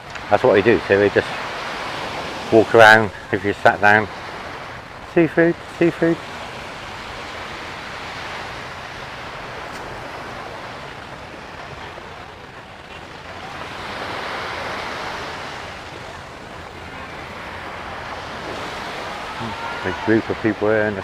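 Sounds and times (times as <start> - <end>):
small waves breaking on sand: 0.0 - 21.0.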